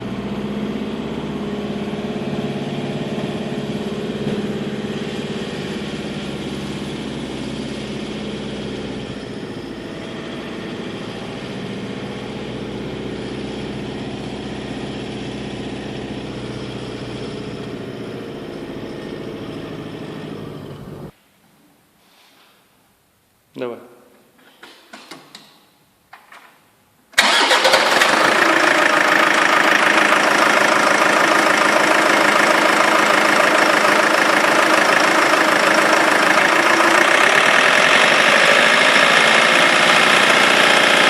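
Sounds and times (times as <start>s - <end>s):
diesel engine idling: 0.0s - 21.1s, 27.2s - 41.0s.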